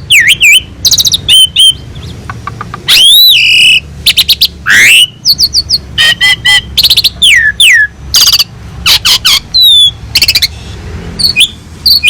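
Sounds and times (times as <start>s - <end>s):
starling singing: 0.0s - 12.0s.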